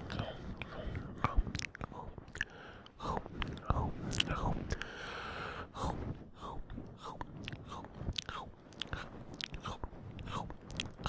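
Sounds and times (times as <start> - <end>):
wet mouth sounds: 0.0 - 4.9, 6.7 - 11.0.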